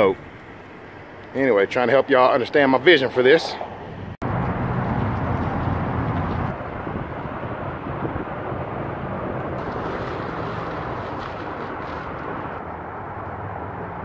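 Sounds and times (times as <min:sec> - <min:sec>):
road noise: 0:00.0 - 0:14.0
truck engine and tyre rumble: 0:00.0 - 0:14.0.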